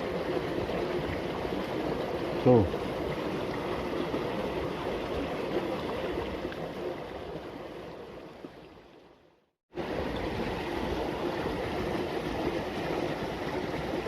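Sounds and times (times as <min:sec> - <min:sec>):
water running in a ditch: 0:00.0 - 0:14.0.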